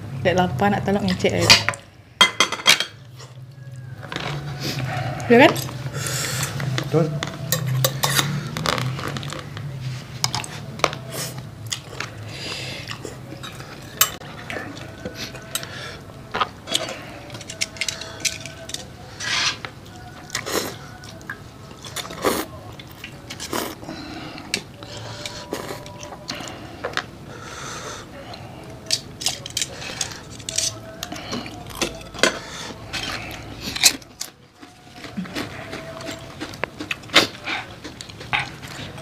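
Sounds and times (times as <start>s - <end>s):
utensils clinking against bowls: 0.9s - 3.4s, 4.1s - 9.4s, 12.8s - 15.8s, 16.4s - 27.0s, 28.8s - 39.0s.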